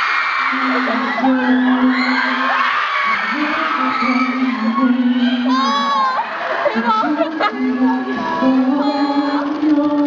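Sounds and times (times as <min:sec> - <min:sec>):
crowd screaming and cheering: 0:00.0 - 0:10.0.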